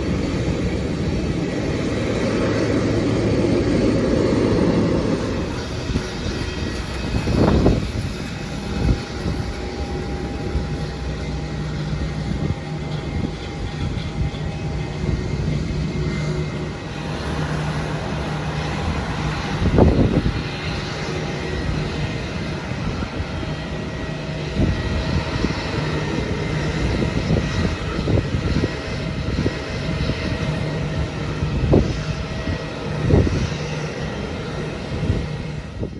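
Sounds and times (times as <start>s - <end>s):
airliner engines humming: 0.0s - 35.9s.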